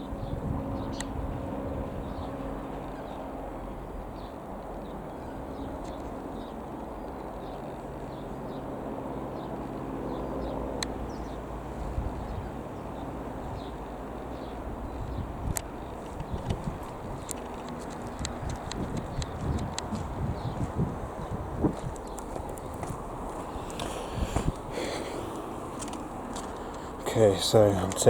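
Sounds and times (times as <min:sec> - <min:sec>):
light aircraft engine droning: 0:00.0 - 0:28.0
small birds chirping: 0:00.0 - 0:28.0.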